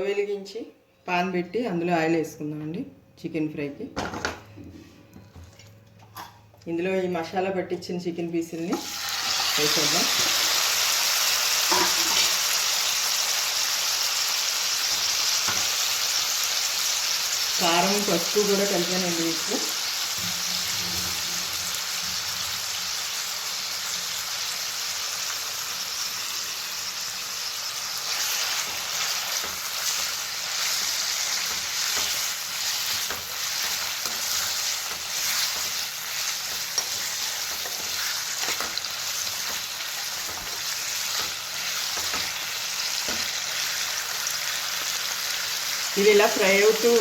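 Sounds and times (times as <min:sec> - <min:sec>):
chicken sizzling in hot oil: 0:08.8 - 0:47.0.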